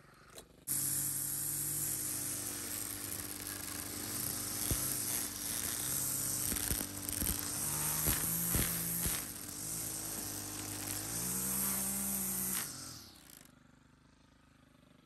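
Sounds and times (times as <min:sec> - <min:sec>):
string trimmer cutting grass: 0:00.1 - 0:13.6
trimmer line ticking: 0:00.7 - 0:13.5.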